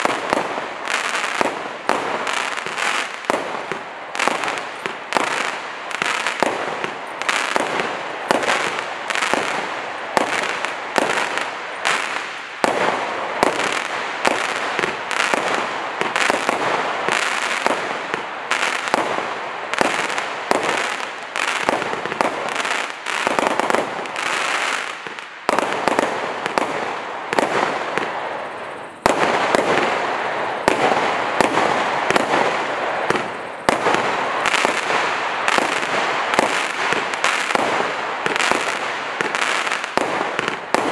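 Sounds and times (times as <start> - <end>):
firework shots banging: 0.0 - 28.2, 30.6 - 40.9
firework crackling: 0.0 - 40.9.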